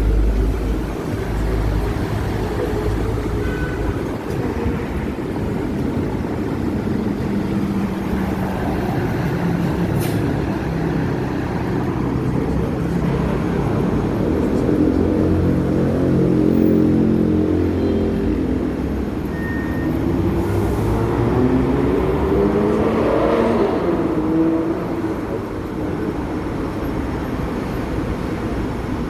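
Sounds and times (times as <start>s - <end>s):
tram rumbling: 0.0s - 29.0s.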